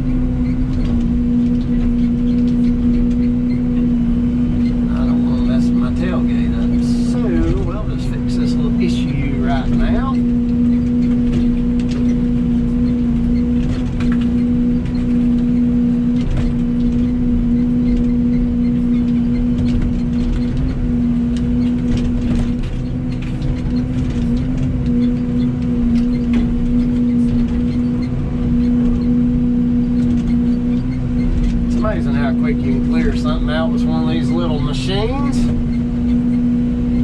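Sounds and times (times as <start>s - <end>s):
excavator diesel engine droning: 0.0s - 37.0s.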